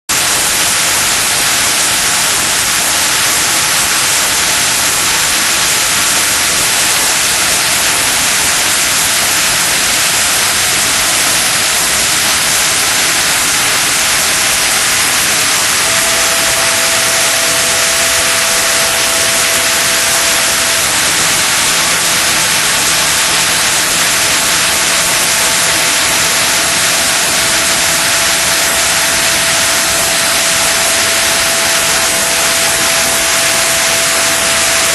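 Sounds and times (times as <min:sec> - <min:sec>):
machining center cutting hiss: 0:00.1 - 0:34.9.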